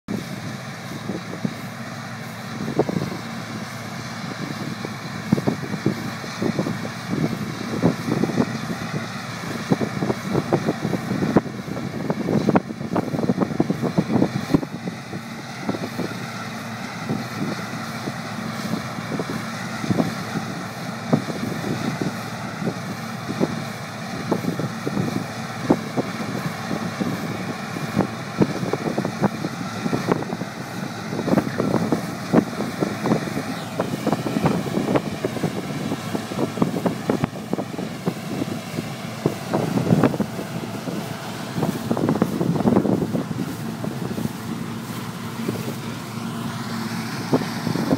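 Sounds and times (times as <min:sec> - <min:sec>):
combine harvester running: 0:00.0 - 0:47.9
wind buffeting microphone: 0:00.1 - 0:47.9.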